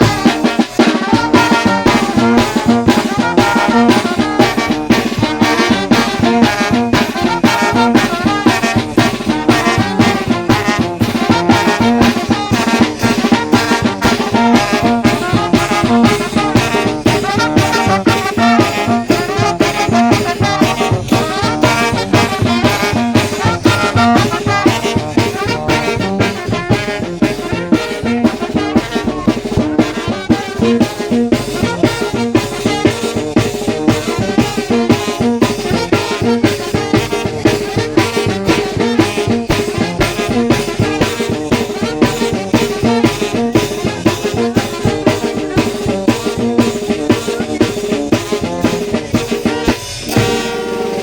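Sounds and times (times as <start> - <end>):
brass band playing: 0.0 - 51.0
steady drum beat: 0.0 - 51.0
trombones and trumpets: 0.0 - 51.0.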